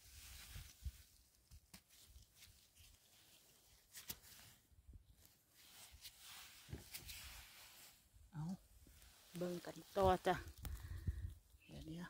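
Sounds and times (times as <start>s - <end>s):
faint clicks and rustles: 0.1s - 12.0s.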